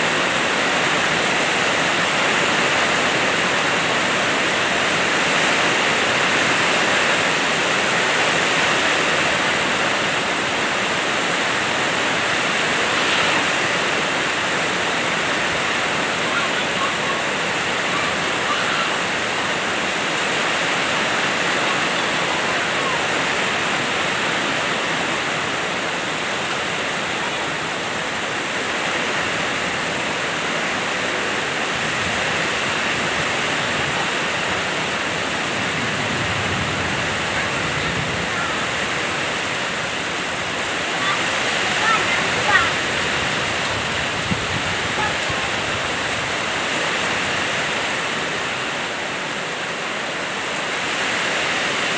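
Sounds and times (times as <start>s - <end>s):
heavy rain: 0.0s - 51.9s.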